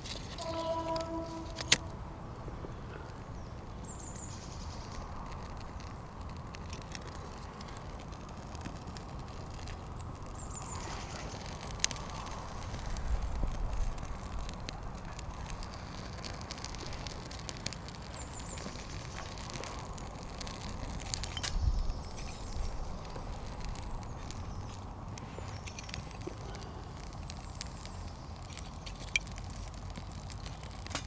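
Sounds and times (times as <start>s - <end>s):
low rumbles: 0.0s - 30.8s
wood fire crackling: 0.0s - 31.0s.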